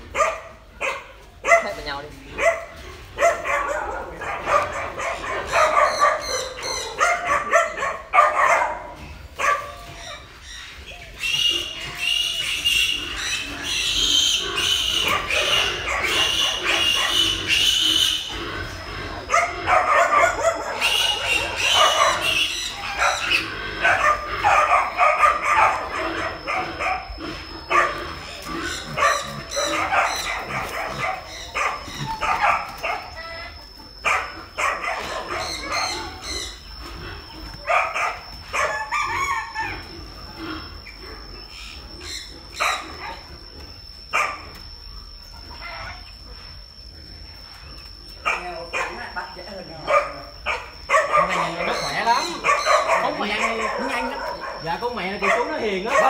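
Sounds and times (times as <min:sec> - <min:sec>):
piglets squealing and grunting: 0:00.0 - 0:56.0.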